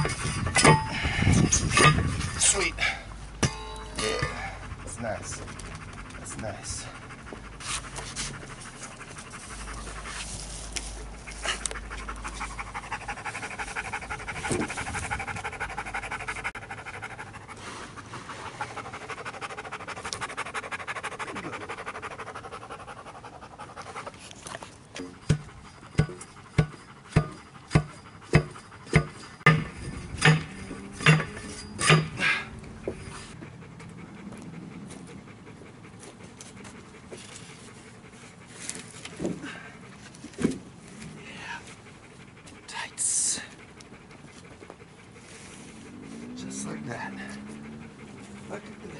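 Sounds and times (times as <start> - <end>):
dog panting: 4.0 - 48.9.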